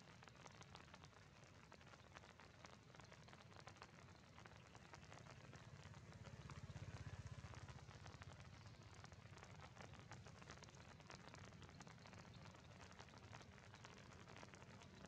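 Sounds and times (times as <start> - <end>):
raindrops ticking on stone and leaves: 0.0 - 15.0.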